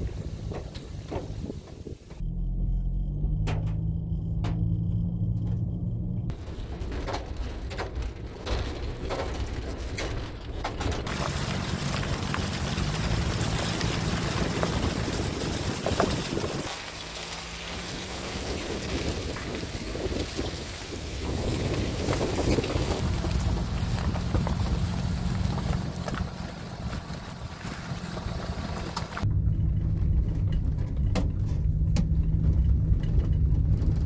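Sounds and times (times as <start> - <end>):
tyres on rough track: 0.0 - 34.0
van engine running: 0.0 - 34.0.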